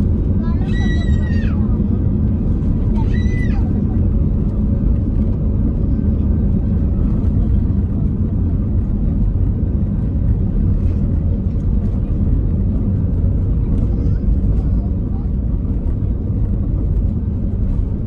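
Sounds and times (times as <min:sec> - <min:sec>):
jet engines low rumble: 0:00.0 - 0:18.0.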